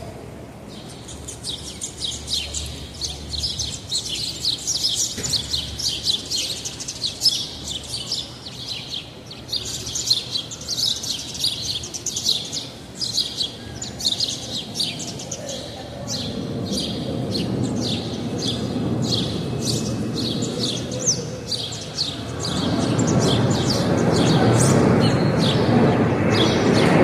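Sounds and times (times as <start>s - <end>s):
small birds chirping: 0.7s - 27.0s.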